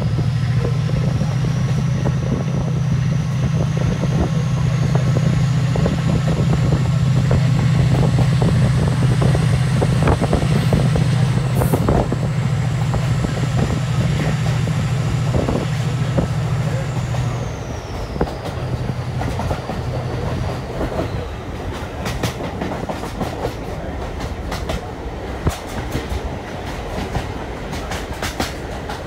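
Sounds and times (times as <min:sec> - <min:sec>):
diesel locomotive engine drone: 0:00.0 - 0:29.0
high engine whine: 0:00.0 - 0:29.0.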